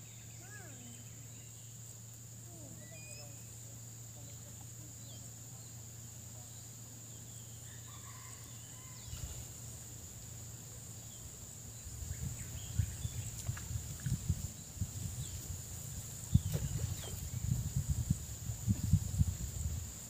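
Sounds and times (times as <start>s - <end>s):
night insects droning: 0.0s - 20.0s.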